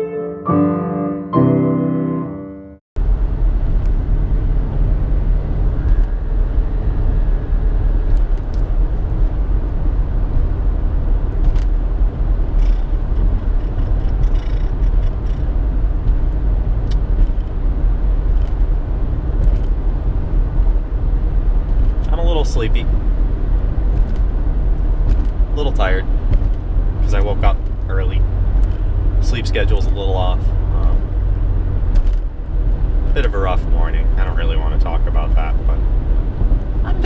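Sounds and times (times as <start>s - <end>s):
car road and engine rumble: 3.0s - 37.0s.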